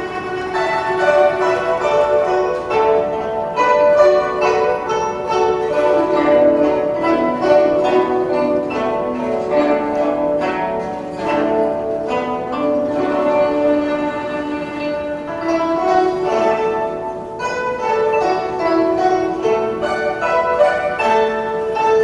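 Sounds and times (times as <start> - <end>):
zither ensemble playing melody: 0.0 - 22.0.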